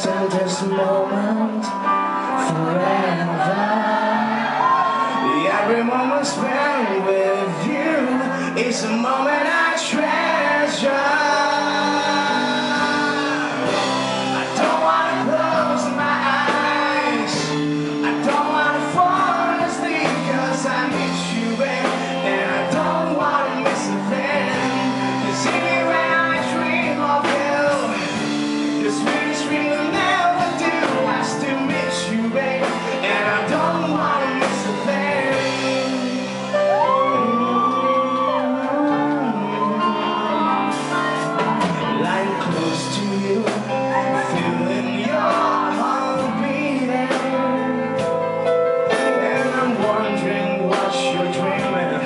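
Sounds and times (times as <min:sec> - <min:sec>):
acoustic guitar accompaniment: 0:00.0 - 0:52.0
person singing ballad: 0:00.0 - 0:52.0.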